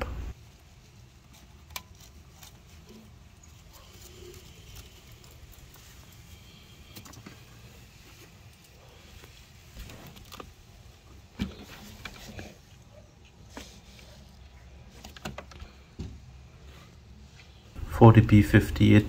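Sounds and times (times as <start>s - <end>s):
low steady hum: 0.0s - 13.2s, 13.8s - 19.0s.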